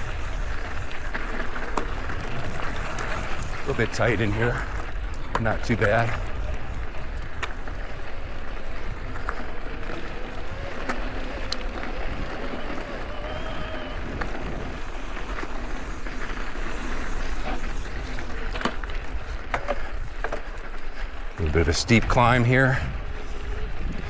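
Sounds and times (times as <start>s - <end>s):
bike clicks and rattles: 0.0s - 24.0s
tyres rolling over dirt and rocks: 0.0s - 24.0s
wind rumble on microphone: 0.0s - 24.0s.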